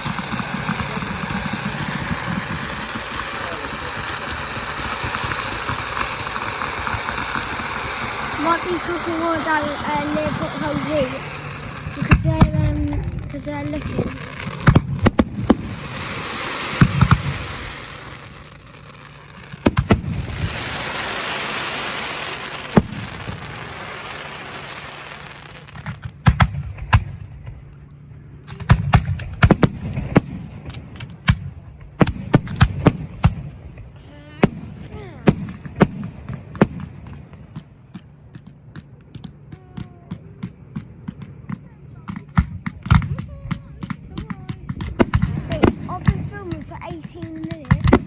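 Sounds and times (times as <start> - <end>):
fireworks bangs and cracks: 0.0 - 48.0
fireworks hissing and crackling: 0.0 - 48.0.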